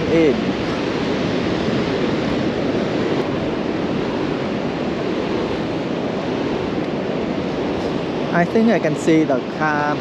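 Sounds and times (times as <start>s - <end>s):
ocean waves breaking on beach: 0.0s - 10.0s.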